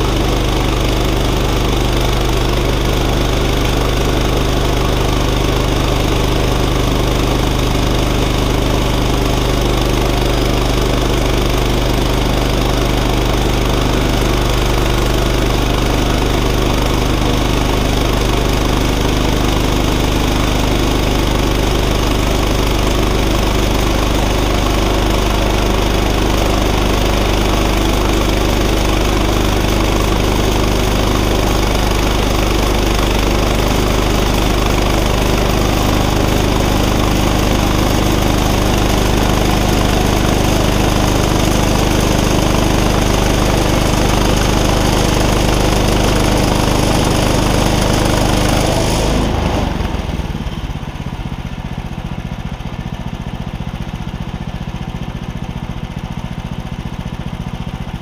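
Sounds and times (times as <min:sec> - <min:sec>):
bandsaw sawing log: 0:00.0 - 0:50.2
gas engine running under load: 0:00.0 - 0:58.0.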